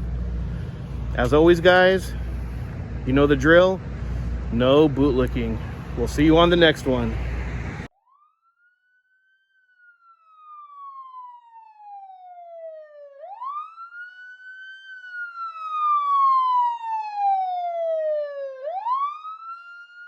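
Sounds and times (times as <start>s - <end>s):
siren wailing: 0.0s - 20.0s.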